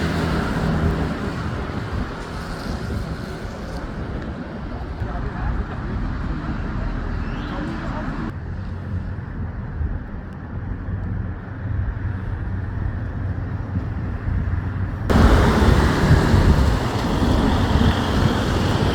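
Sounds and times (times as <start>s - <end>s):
street traffic rumble: 0.0s - 18.9s
wind buffeting microphone: 0.0s - 18.9s.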